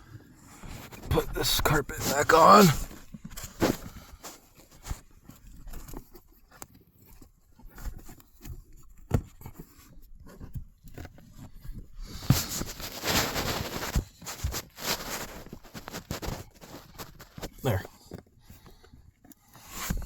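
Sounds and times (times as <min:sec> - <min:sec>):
carpet rustling and scraping: 0:00.5 - 0:18.9, 0:19.5 - 0:20.0.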